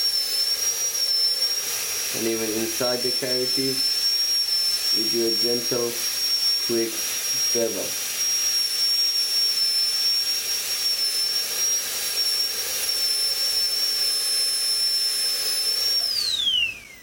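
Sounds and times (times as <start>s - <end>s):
dental drill whining: 0.0s - 17.0s.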